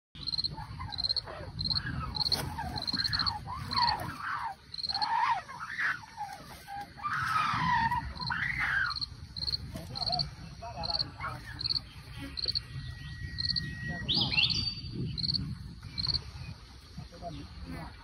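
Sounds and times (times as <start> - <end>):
rising and falling insect calls: 0.2 - 16.2
insects chirping: 0.2 - 18.0.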